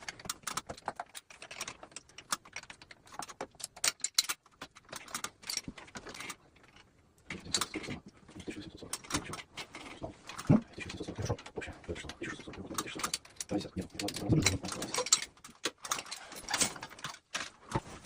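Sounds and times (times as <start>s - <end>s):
tools clicking and rattling: 0.0s - 18.0s.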